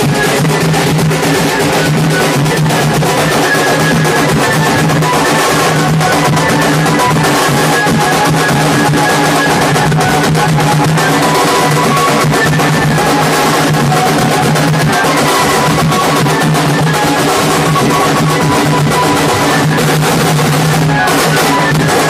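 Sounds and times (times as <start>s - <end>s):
barrel drums beating: 0.0s - 22.0s
high melody line: 0.0s - 22.0s.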